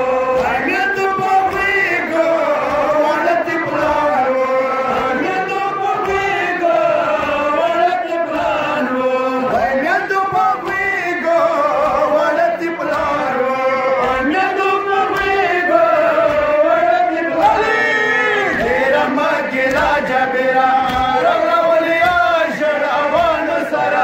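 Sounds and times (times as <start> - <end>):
man chanting a lament: 0.0 - 24.0.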